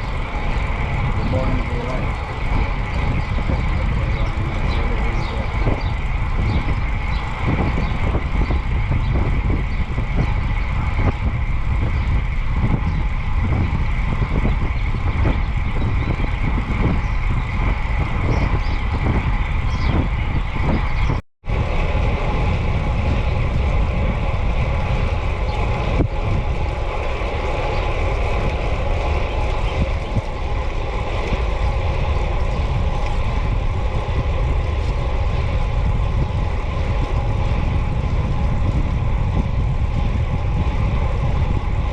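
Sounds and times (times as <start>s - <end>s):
steady hum: 0.0s - 41.9s
wind buffeting microphone: 0.0s - 41.9s.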